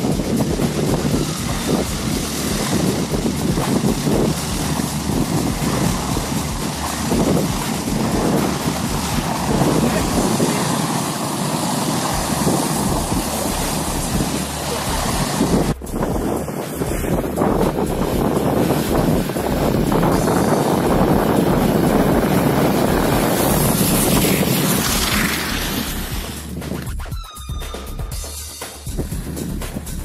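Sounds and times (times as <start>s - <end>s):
wind buffeting microphone: 0.0s - 27.0s
low vehicle rumble: 0.0s - 30.0s.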